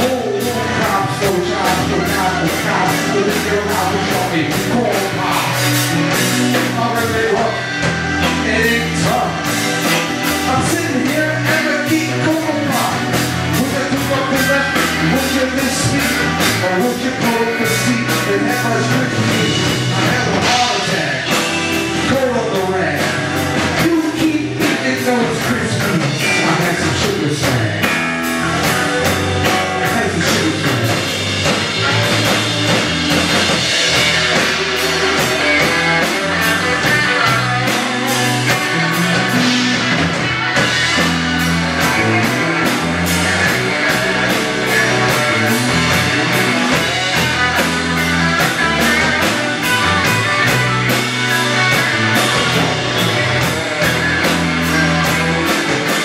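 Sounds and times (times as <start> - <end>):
drum kit beat: 0.0 - 56.0
electric bass: 0.0 - 56.0
electric guitars: 0.0 - 56.0.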